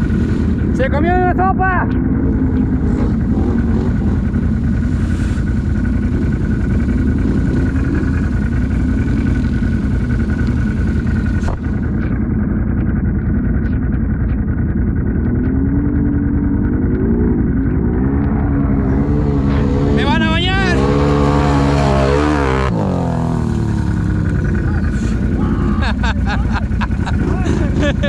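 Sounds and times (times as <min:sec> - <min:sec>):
atv engine running under load: 0:00.0 - 0:28.0.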